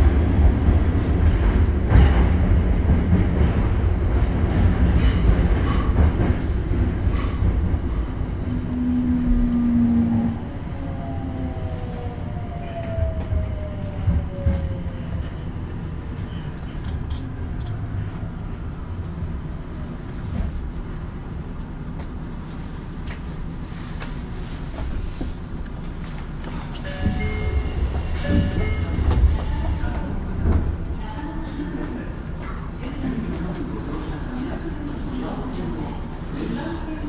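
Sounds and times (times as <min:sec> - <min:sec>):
low rumble of rail traffic: 0:00.0 - 0:37.0.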